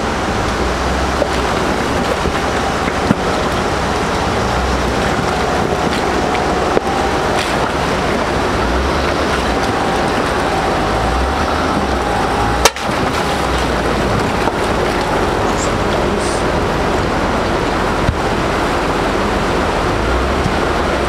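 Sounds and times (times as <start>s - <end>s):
loud steady rushing noise: 0.0s - 21.0s
truck engine running: 0.0s - 21.0s.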